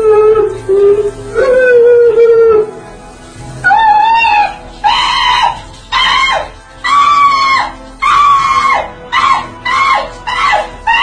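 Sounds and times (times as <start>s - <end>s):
shower water running: 0.0s - 11.0s.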